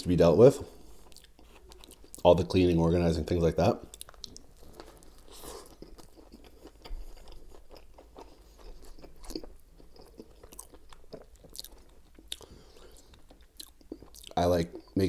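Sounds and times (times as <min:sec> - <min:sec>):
chewing toasted sandwich: 0:00.7 - 0:02.3, 0:03.9 - 0:15.0.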